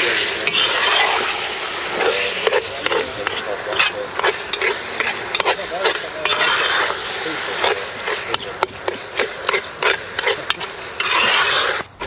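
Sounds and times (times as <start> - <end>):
meat sizzling in a pot: 0.0 - 12.0
metal spoon scraping a pot: 0.0 - 12.0.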